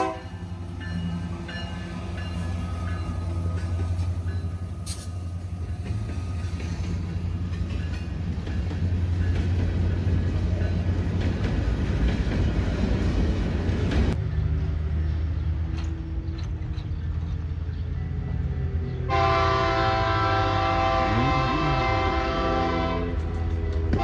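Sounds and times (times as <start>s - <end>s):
diesel train engine drone: 0.0s - 24.0s
train wheels rumbling on rails: 0.0s - 24.0s.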